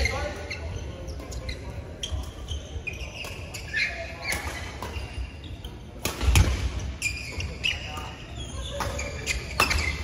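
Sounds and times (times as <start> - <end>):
shoes squeaking on court: 0.0 - 10.0.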